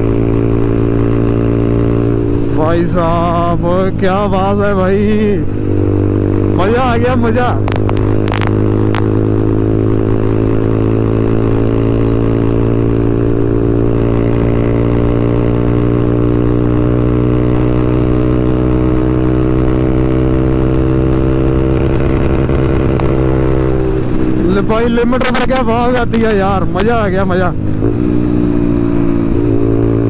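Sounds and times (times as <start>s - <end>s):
motorcycle engine on rev limiter: 0.0s - 30.0s.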